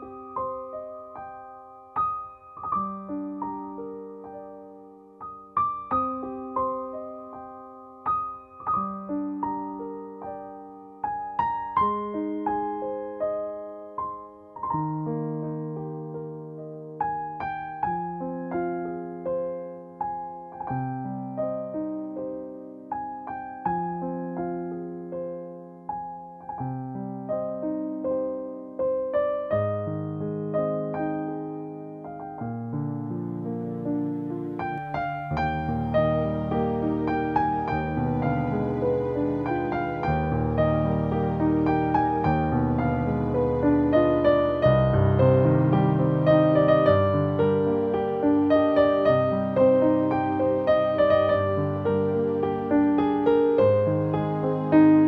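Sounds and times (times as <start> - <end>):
slow solo piano: 0.0 - 55.0.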